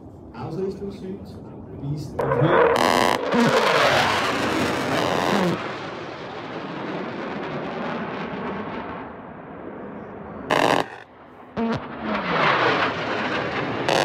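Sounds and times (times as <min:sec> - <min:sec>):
fighter jet roaring overhead: 0:01.4 - 0:14.0.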